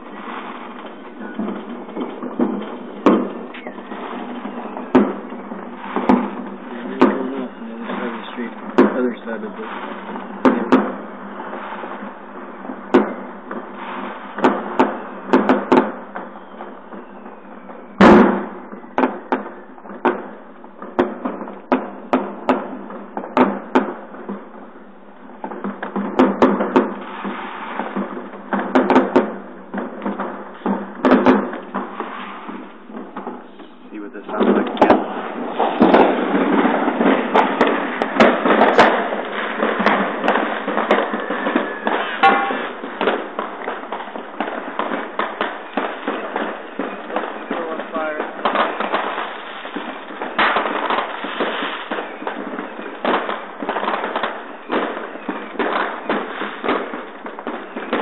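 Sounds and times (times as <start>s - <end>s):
fireworks and firecrackers banging: 0.0s - 58.0s
steady background noise: 0.0s - 58.0s.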